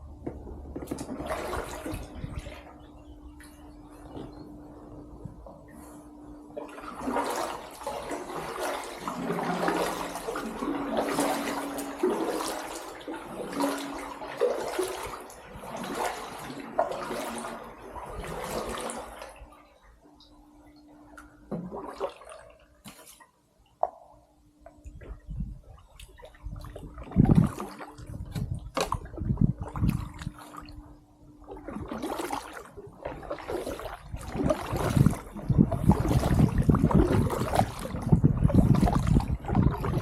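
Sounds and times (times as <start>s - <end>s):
faint steady hum: 0.0s - 40.0s
paddle strokes splashing water: 0.2s - 4.4s, 6.6s - 19.5s, 21.1s - 24.0s, 24.9s - 40.0s.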